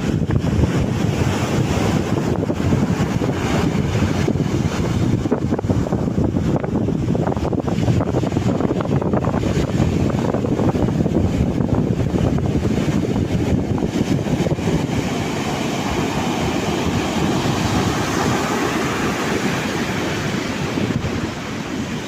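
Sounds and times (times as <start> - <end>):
ocean surf: 0.0 - 22.0
wave washing in: 0.0 - 22.0
wind buffeting microphone: 0.0 - 22.0.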